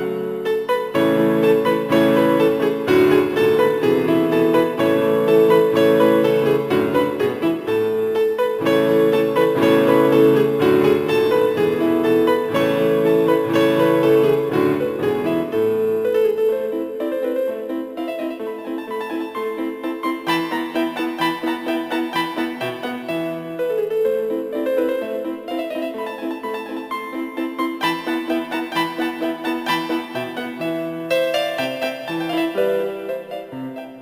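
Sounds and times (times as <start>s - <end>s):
background piano music: 0.0s - 34.0s.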